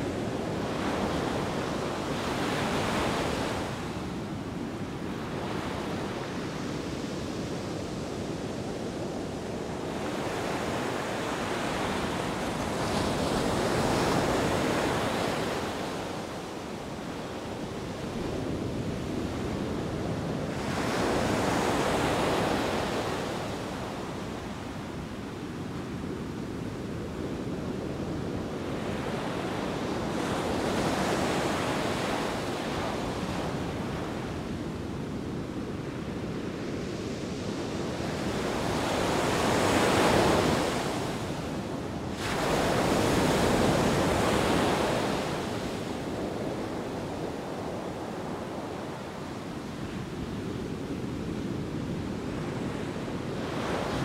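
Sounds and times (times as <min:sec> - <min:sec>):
sea surf breaking on a beach: 0:00.0 - 0:54.0.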